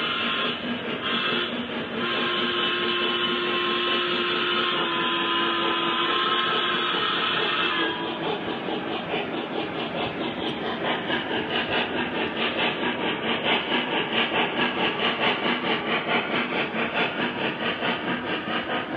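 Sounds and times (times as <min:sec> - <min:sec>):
model train steam chuff: 0:00.0 - 0:18.9
wheels rumbling on track: 0:00.0 - 0:18.9.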